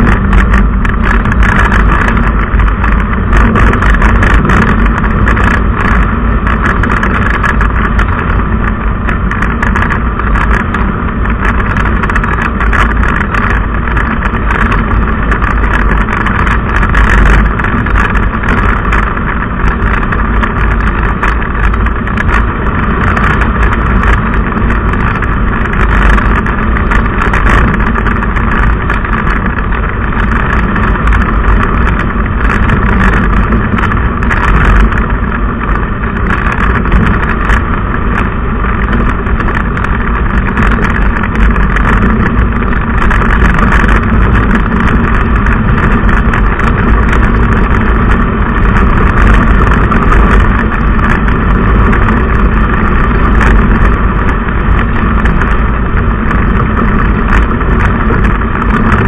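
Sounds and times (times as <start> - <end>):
car road noise from inside: 0.0 - 59.0.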